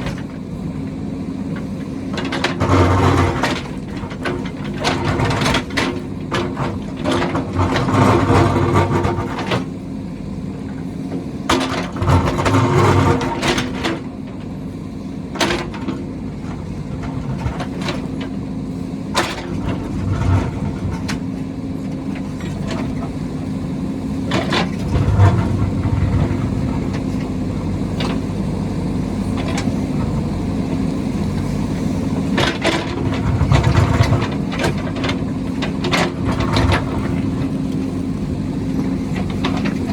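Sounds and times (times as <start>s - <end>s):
diesel construction machinery engine: 0.0s - 39.9s.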